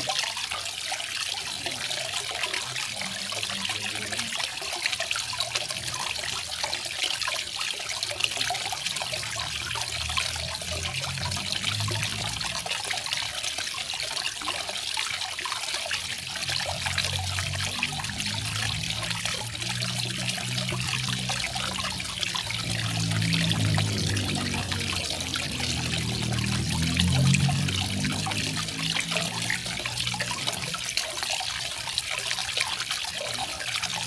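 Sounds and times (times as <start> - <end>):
water trickling and splashing: 0.0 - 34.0
deep water burble: 0.9 - 34.0.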